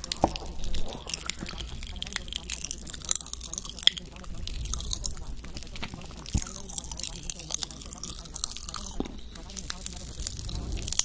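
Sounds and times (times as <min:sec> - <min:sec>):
mouth clicks and crackles: 0:00.0 - 0:11.0
steady low hum: 0:00.0 - 0:11.0.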